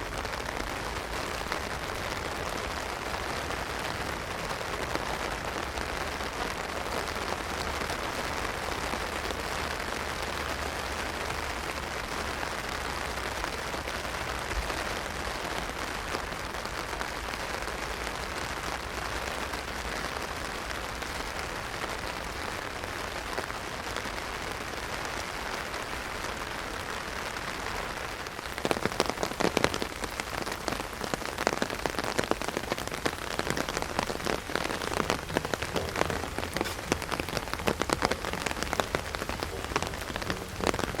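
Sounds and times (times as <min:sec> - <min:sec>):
heavy rain drumming on umbrella: 0:00.0 - 0:41.0.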